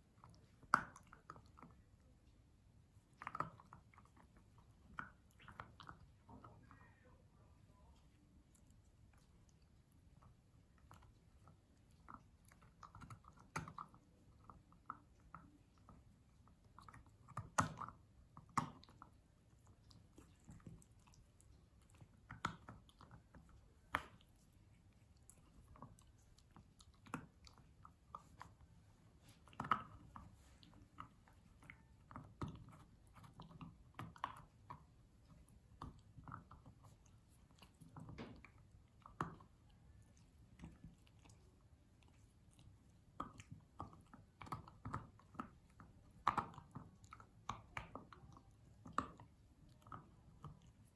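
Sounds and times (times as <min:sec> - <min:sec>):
dog chewing: 0:00.0 - 0:02.0, 0:02.8 - 0:06.5, 0:08.4 - 0:50.9.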